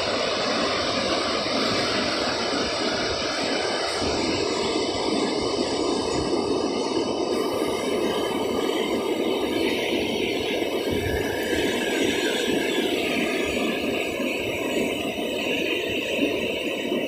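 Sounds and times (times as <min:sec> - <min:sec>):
river rapids rushing over boulders: 0:00.0 - 0:17.0.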